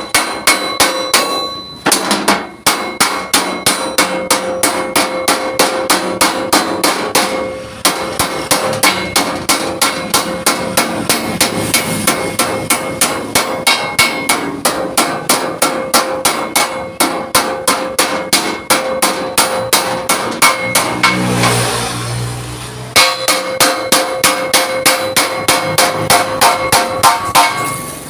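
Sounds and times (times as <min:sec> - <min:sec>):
hammer beating steel plate: 0:00.0 - 0:22.3, 0:22.9 - 0:28.0.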